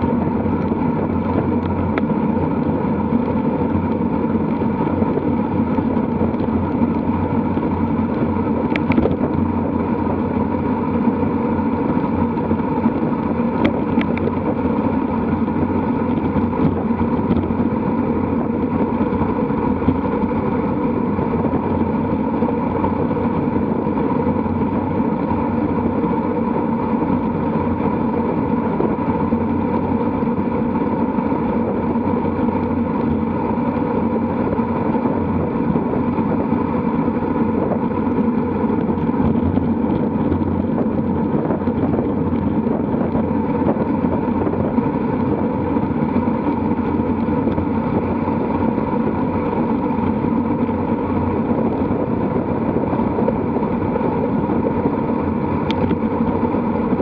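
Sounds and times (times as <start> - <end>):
bicycle tyres humming on tarmac: 0.0 - 57.0
wind rushing over microphone: 0.0 - 57.0.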